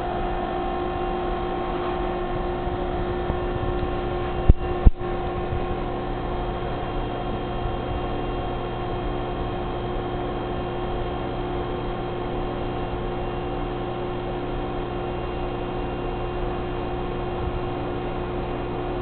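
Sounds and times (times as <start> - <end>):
aquarium pumps humming: 0.0 - 19.0.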